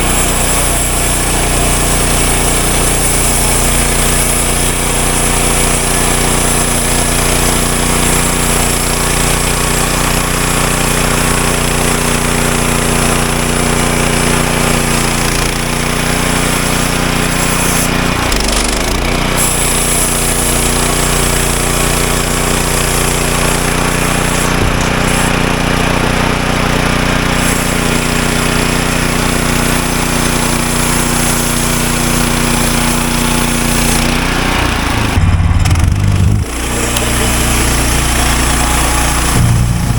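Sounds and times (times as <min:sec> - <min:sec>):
band blade cutting log: 0:00.0 - 0:26.0, 0:29.5 - 0:39.9
gas engine at high speed: 0:00.0 - 0:39.9.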